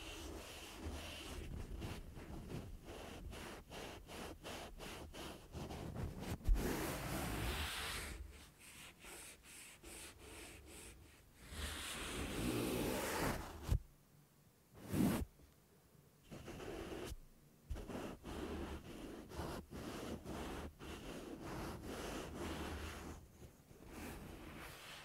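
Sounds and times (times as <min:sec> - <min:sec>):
cotton rubbing on microphone grille: 0:00.0 - 0:13.8, 0:14.8 - 0:15.3, 0:16.2 - 0:25.0.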